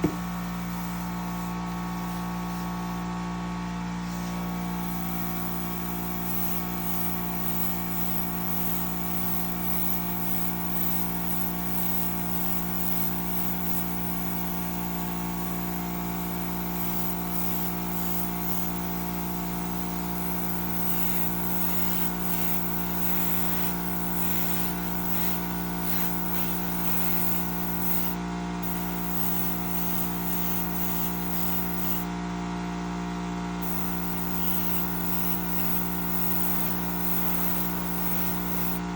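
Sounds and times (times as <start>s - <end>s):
small electric motor humming: 0.0s - 32.2s, 33.6s - 38.9s.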